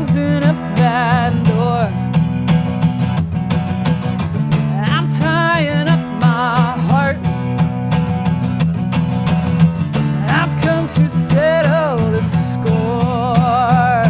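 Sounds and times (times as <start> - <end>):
strummed acoustic guitar: 0.0 - 14.0
woman singing country song: 0.0 - 14.0.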